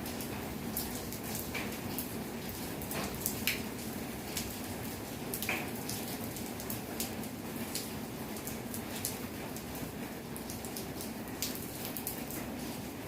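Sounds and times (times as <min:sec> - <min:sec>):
rain drops pattering on hard surfaces: 0:00.0 - 0:13.0.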